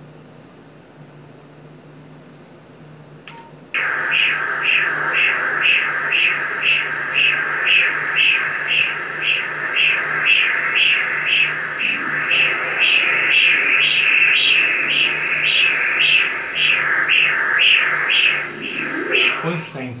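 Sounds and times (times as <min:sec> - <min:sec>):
low machine hum: 0:00.0 - 0:20.0
rhythmic whooshing pulse: 0:03.8 - 0:20.0.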